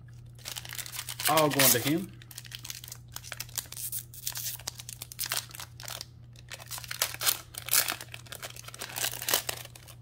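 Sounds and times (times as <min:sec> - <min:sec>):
foil pack crinkling and tearing: 0:00.3 - 0:10.0.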